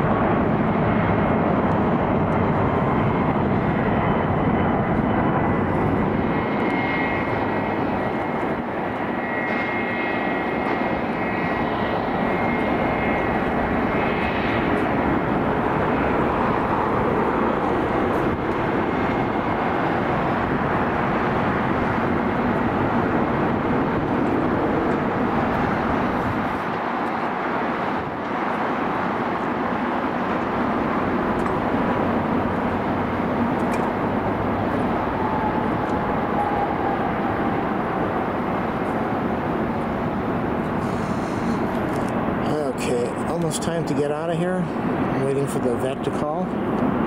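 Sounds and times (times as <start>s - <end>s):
high fan whine: 0.0s - 47.0s
jet engine rush: 0.0s - 47.0s.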